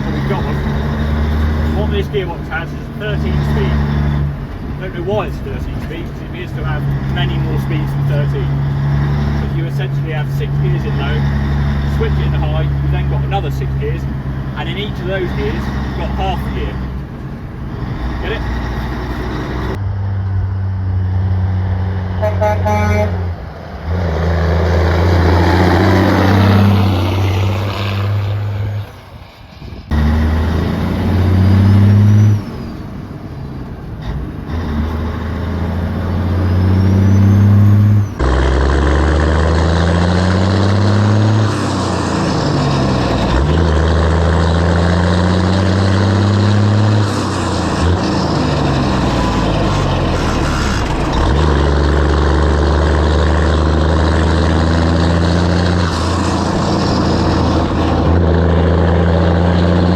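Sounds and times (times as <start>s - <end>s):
lorry diesel engine accelerating: 0.0s - 59.9s.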